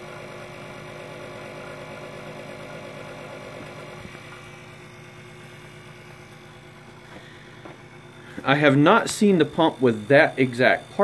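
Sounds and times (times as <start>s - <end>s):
circulation pump humming: 0.0s - 11.0s.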